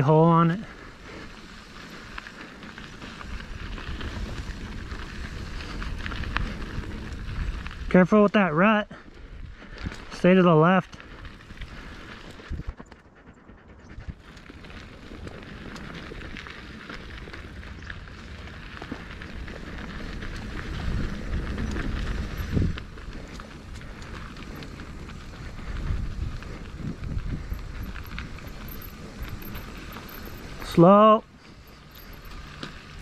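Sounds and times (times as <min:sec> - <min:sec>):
bike rattling over bumps: 0:00.0 - 0:13.0, 0:14.0 - 0:33.0
bike tyres on loose dirt: 0:00.0 - 0:33.0
wind buffeting microphone: 0:00.6 - 0:08.0, 0:09.0 - 0:10.2, 0:10.9 - 0:33.0.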